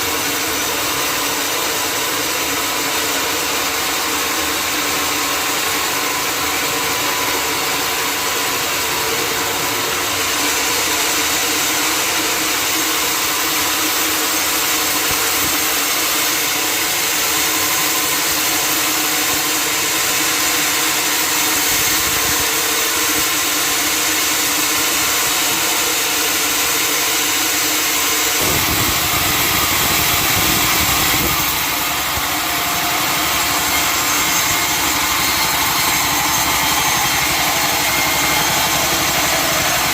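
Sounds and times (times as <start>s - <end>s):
saw cutting through log: 0.0s - 39.9s
sawmill motor humming: 0.0s - 39.9s.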